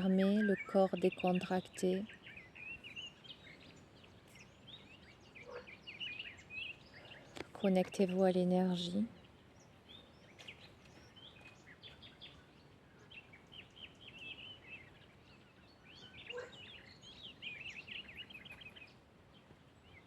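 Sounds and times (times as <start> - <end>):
soft outdoor hiss: 0.0 - 20.0
songbirds chirping and trilling: 0.0 - 20.0.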